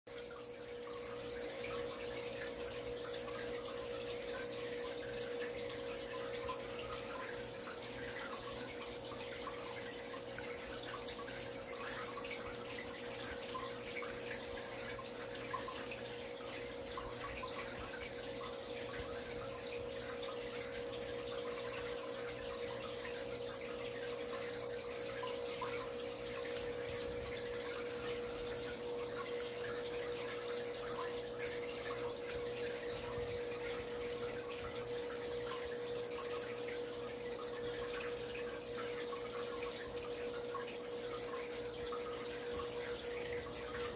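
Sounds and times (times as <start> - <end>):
filter motor hum: 0.1 - 43.9
water trickling and splashing: 0.1 - 43.9.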